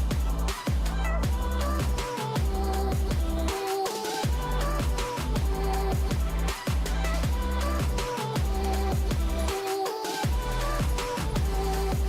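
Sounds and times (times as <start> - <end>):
deep bass: 0.0 - 3.5, 4.3 - 9.5, 10.3 - 12.0
heavy drum beat: 0.0 - 12.0.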